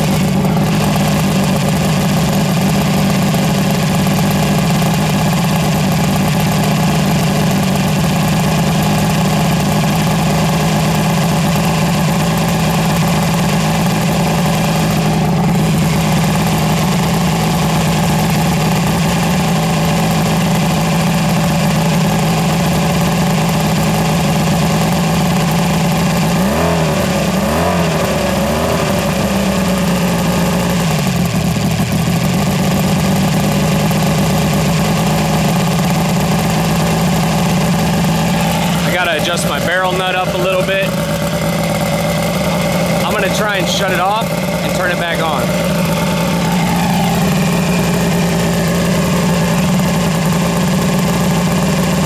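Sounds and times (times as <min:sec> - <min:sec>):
outboard engine idling: 0:00.0 - 0:52.0.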